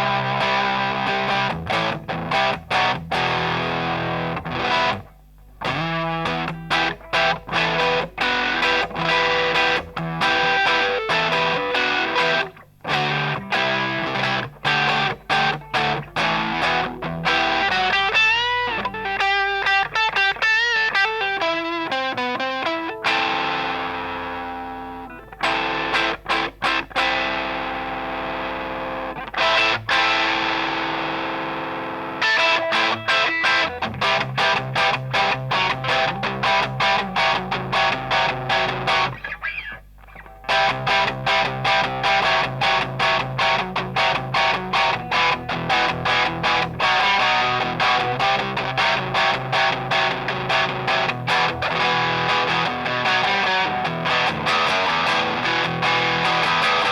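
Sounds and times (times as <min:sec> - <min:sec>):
distorted electric guitar: 0:00.0 - 0:56.9.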